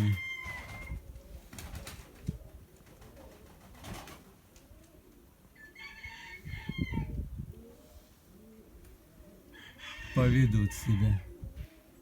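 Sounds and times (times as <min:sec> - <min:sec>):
pigeons cooing softly: 0:00.0 - 0:12.0.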